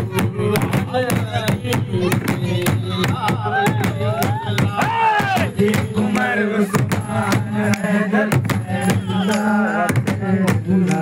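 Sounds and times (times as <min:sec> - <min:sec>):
hand drums striking: 0:00.0 - 0:11.0
men chanting in unison: 0:00.0 - 0:11.0.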